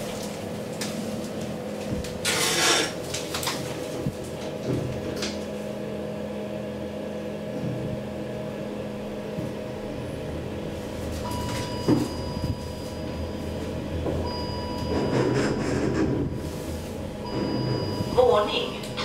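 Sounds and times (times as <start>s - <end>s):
elevator humming: 0.0s - 19.0s.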